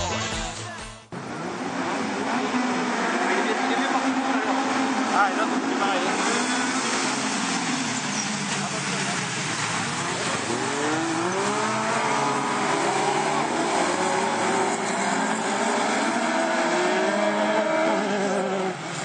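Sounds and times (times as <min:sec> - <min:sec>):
racing buggy engines revving: 0:01.1 - 0:19.0.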